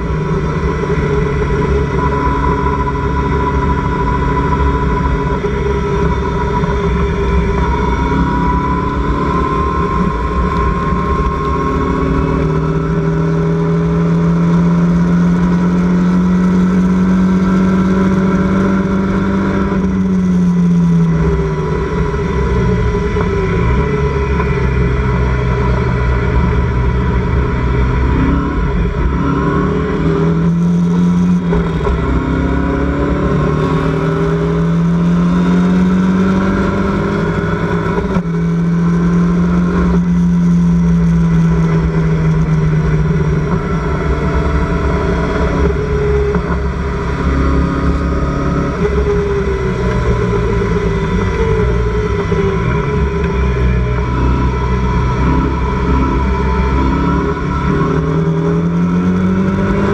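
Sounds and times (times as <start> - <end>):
low rumble: 0.0 - 15.5, 17.4 - 59.9
race car engine accelerating: 0.0 - 59.9.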